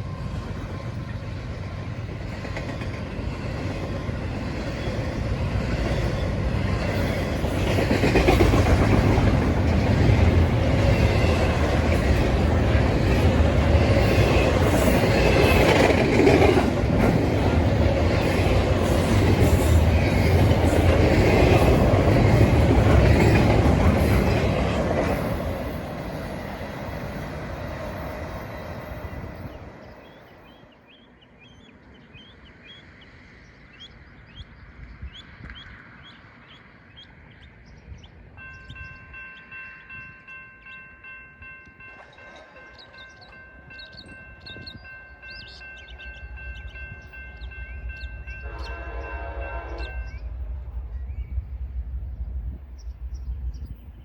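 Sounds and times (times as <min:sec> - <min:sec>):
train rolling past on rails: 0:00.0 - 0:54.0.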